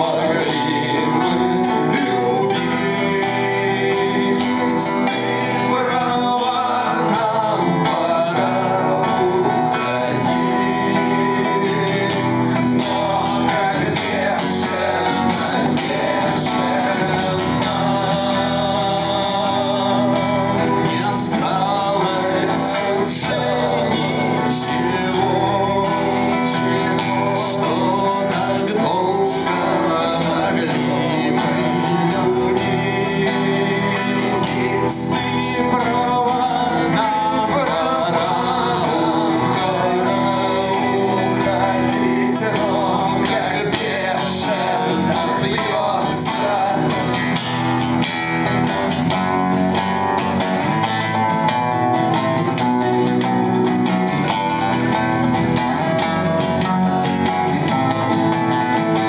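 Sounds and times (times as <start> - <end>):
acoustic guitars strummed: 0.0 - 59.0
man singing: 0.0 - 59.0.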